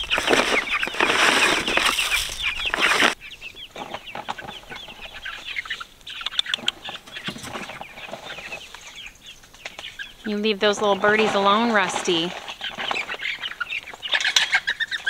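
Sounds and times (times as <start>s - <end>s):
young chickens clucking and chirping: 0.0s - 15.0s.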